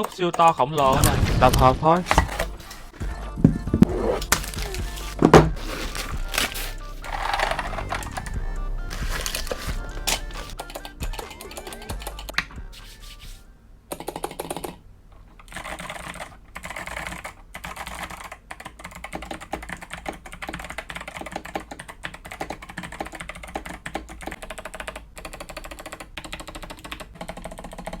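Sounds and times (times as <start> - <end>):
clicky keyboard typing: 0.0 - 1.0, 4.2 - 12.5, 13.9 - 14.8, 15.4 - 28.0.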